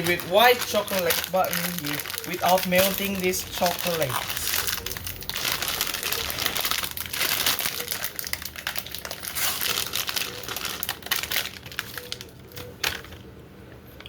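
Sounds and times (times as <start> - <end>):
plastic packaging crinkling: 0.0 - 13.3.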